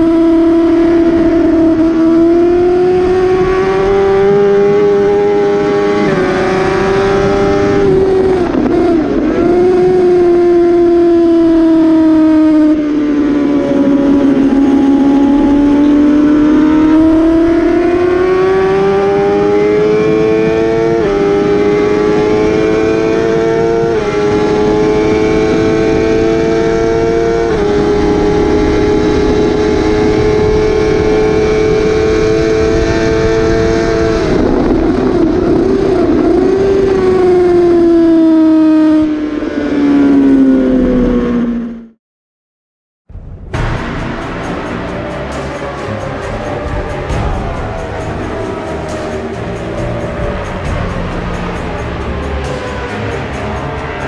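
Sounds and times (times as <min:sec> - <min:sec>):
heavy wind rush: 0:00.0 - 0:38.1, 0:43.1 - 0:54.0
motorcycle engine at race pace: 0:00.0 - 0:41.9, 0:43.6 - 0:54.0.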